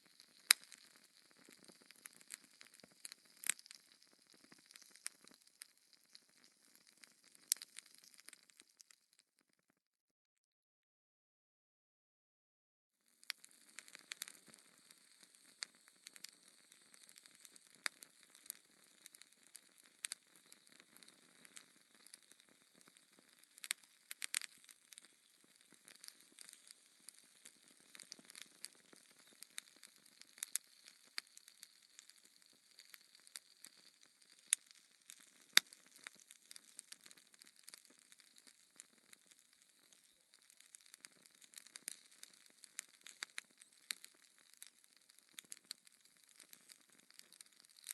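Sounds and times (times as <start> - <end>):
fire pops: 0.0 - 9.2, 13.2 - 47.9
wood fire crackling: 0.0 - 9.2, 13.2 - 47.9.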